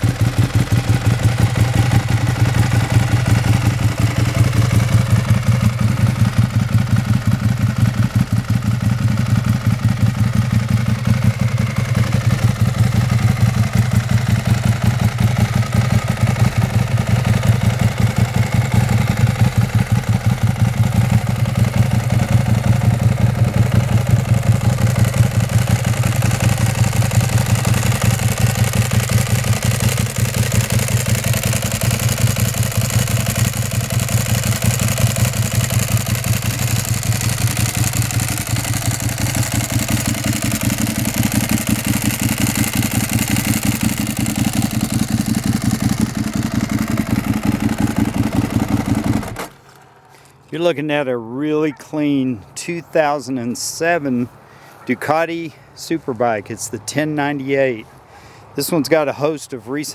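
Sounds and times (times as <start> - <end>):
motorcycle engine idling: 0.0 - 50.5.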